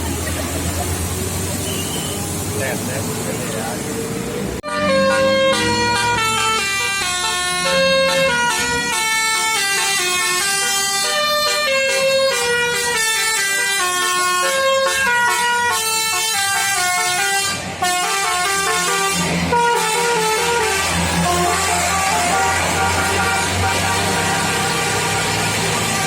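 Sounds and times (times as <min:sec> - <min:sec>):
bus horn playing a melody: 0:01.4 - 0:02.3, 0:04.6 - 0:26.0.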